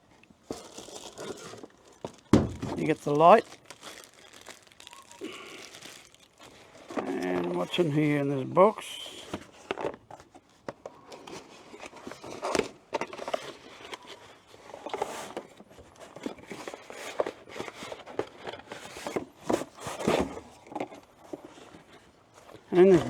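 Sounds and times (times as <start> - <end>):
cardboard box packing rustling: 0.4 - 23.0.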